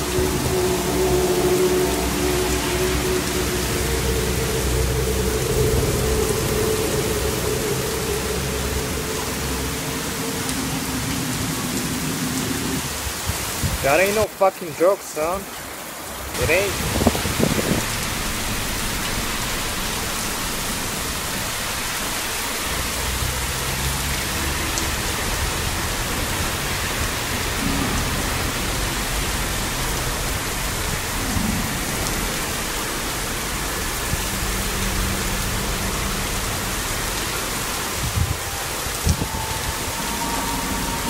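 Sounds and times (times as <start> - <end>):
heavy rain pouring: 0.0 - 41.0
water running over ground: 0.0 - 41.0.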